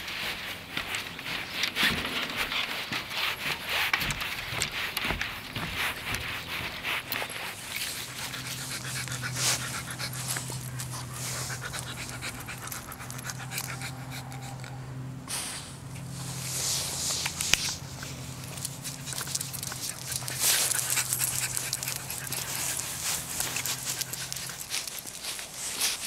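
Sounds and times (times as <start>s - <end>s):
steady low hum: 1.1s - 25.6s
dog panting rapidly: 1.8s - 15.1s, 17.2s - 26.0s.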